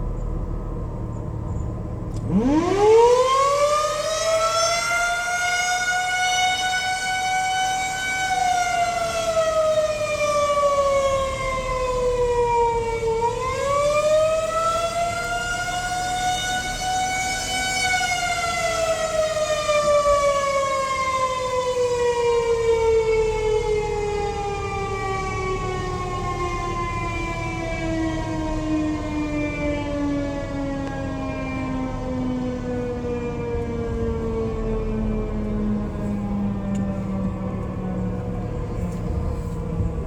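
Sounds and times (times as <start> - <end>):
rotating warning siren: 0.0 - 40.0.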